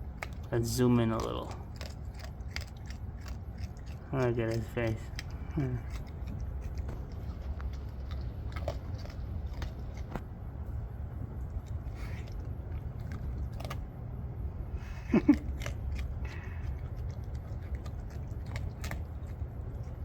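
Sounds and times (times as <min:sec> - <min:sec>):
raccoon crunching dry food: 0:00.0 - 0:20.0
steady low hum: 0:00.0 - 0:20.0.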